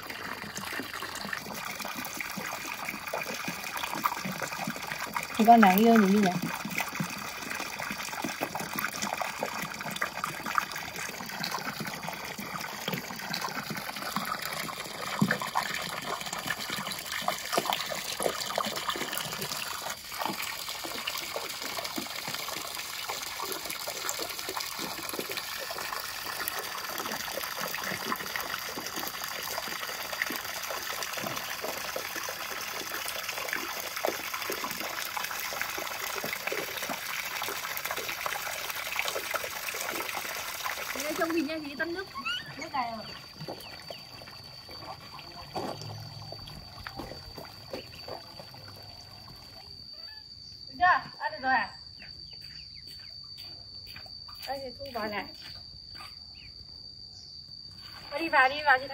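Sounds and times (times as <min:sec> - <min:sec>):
hose water splashing into pool: 0:00.0 - 0:50.2, 0:57.7 - 0:58.9.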